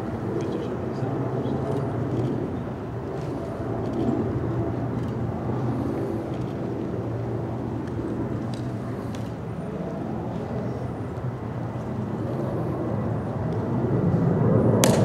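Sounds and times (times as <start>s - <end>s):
low outdoor drone and rumble: 0.0s - 15.0s.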